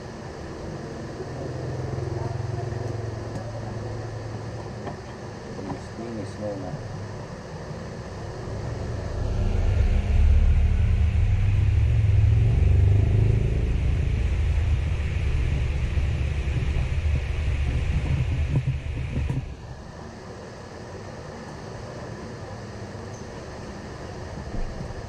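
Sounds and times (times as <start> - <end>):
low rumbling motor: 0.0 - 25.0.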